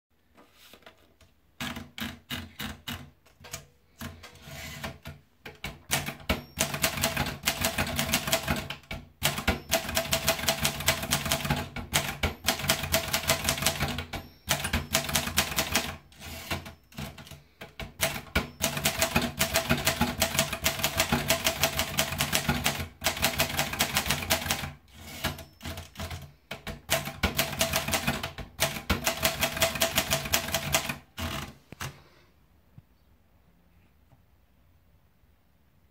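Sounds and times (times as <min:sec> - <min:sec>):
typewriter keystroke clacks: 0:01.6 - 0:32.0.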